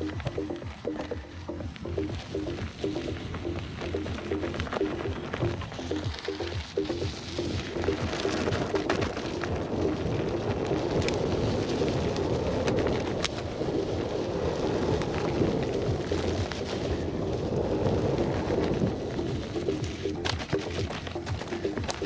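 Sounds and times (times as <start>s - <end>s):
electric unicycle rolling on dirt: 0.0s - 22.0s
wind on microphone: 0.0s - 22.0s.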